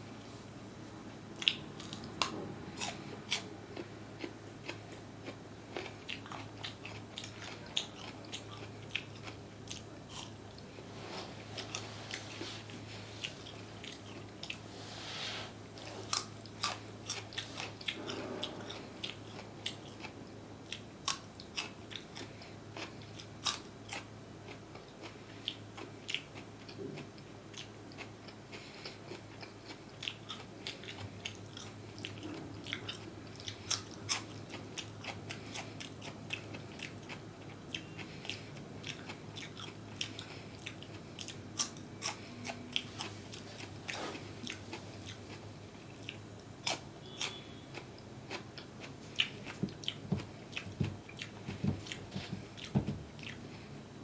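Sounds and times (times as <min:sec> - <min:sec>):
crunchy food chewing: 0:01.4 - 0:14.7, 0:15.8 - 0:53.7.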